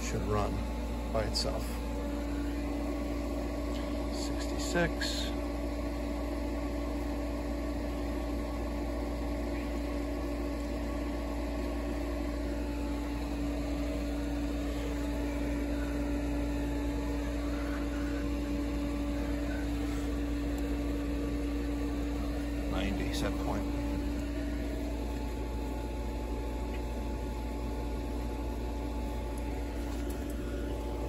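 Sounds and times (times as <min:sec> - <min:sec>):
pool pump motor hum: 0:00.0 - 0:31.0.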